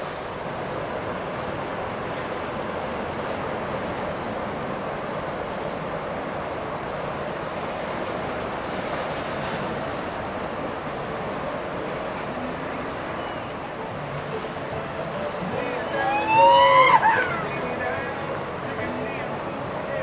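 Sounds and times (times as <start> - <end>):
rushing water: 0.0 - 20.0
wind: 0.0 - 20.0.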